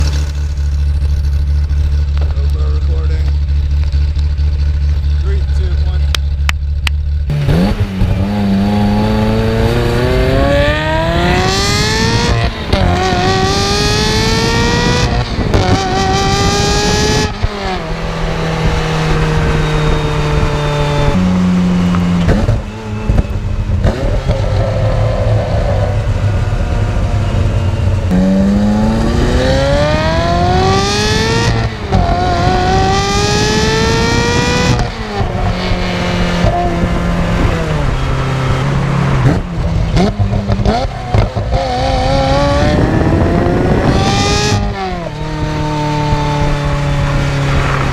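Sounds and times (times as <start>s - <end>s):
sports car exhaust accelerating: 0.0s - 47.9s.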